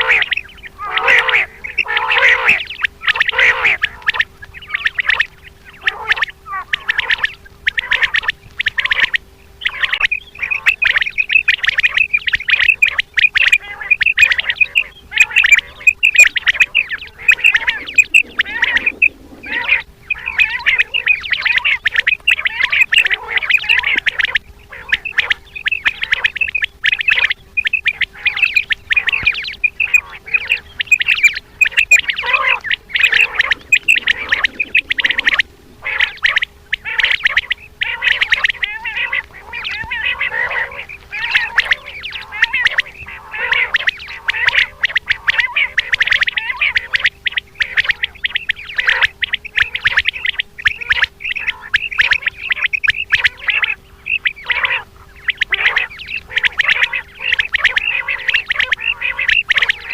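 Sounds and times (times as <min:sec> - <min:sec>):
quail calling: 0:00.0 - 0:59.9.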